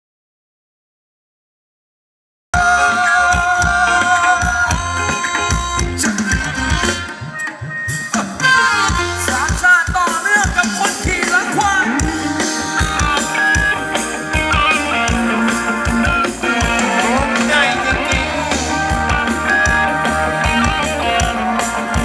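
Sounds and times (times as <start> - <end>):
live band music: 2.6 - 22.0
steady drum beat: 2.6 - 22.0.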